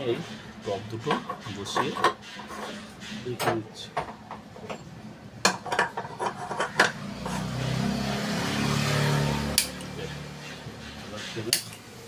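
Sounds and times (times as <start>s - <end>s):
gas burners roaring: 0.0s - 12.0s.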